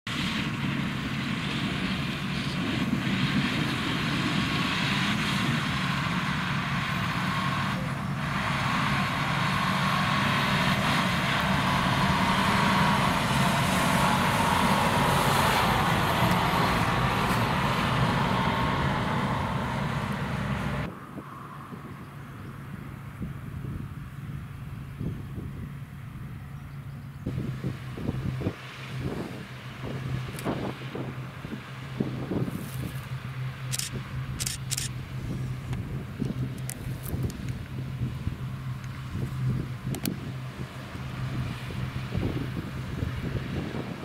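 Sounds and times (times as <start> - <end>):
tractor diesel engine running: 0.1 - 20.9, 22.4 - 44.0.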